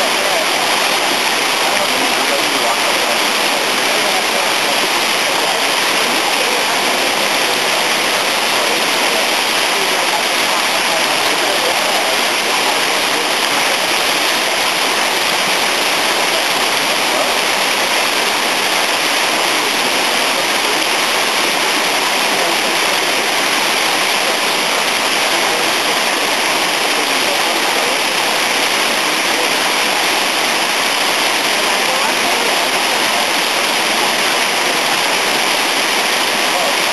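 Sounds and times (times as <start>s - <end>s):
water rushing and splashing: 0.0s - 36.9s.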